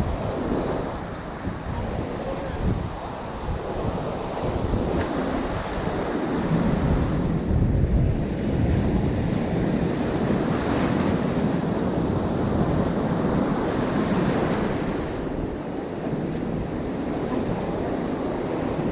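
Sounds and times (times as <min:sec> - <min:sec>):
surf breaking on beach: 0:00.0 - 0:18.9
wind rumbling on microphone: 0:00.0 - 0:18.9.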